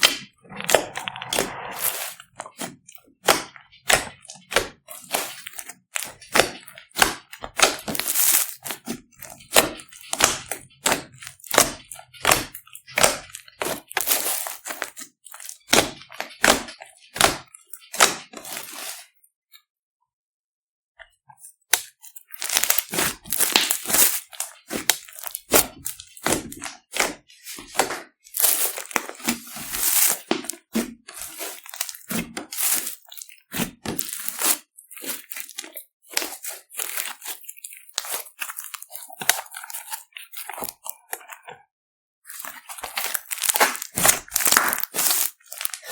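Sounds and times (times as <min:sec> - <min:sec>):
slime squished by hand: 0:00.0 - 0:19.0, 0:21.7 - 0:41.3, 0:42.3 - 0:45.9.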